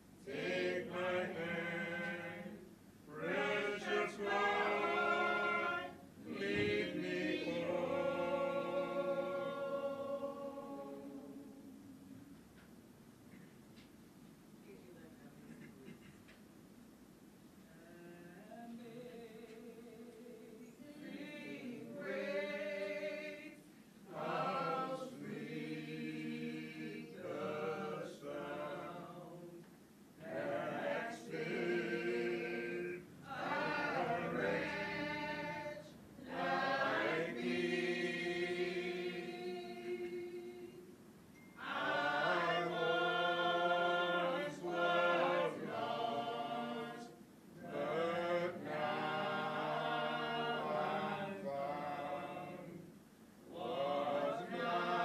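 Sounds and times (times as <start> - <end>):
choir singing slowly: 0.0 - 12.4, 17.6 - 55.0.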